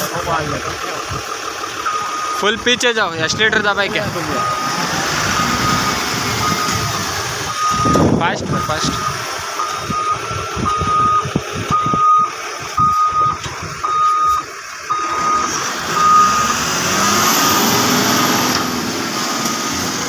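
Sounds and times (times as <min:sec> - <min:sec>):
truck engine backing up: 0:00.0 - 0:20.0
truck reversing alarm beeping: 0:00.0 - 0:20.0.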